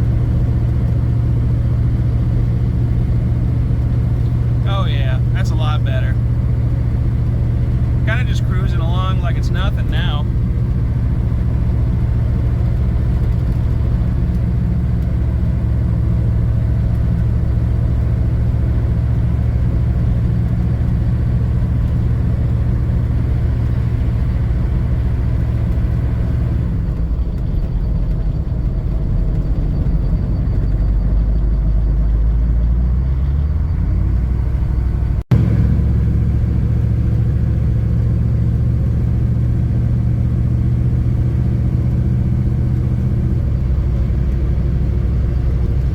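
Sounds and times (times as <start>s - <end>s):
diesel engine cruising: 0.0s - 45.9s.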